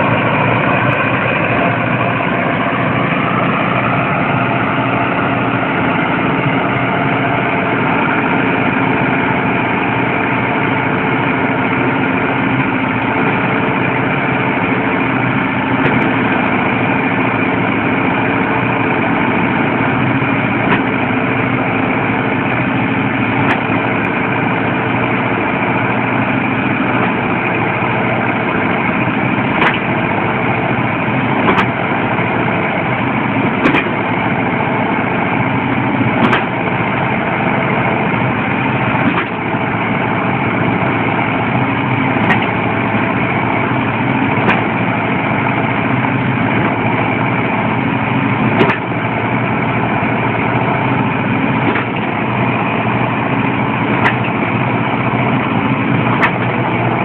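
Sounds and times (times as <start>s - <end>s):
tractor diesel engines running: 0.0s - 57.0s.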